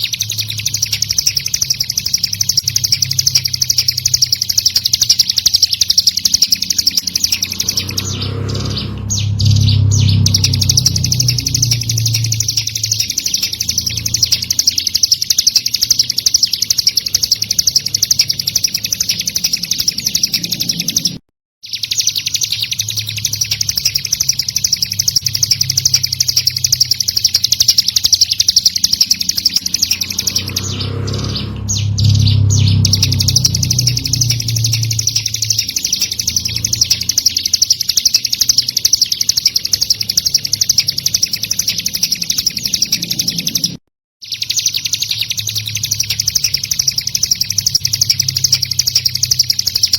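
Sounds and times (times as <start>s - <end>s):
bird singing rapid chirps: 0.0s - 49.9s.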